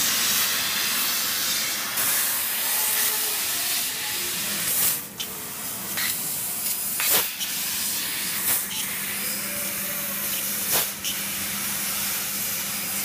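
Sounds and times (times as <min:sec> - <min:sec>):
laser cutter gas jet hissing: 0:00.0 - 0:13.0.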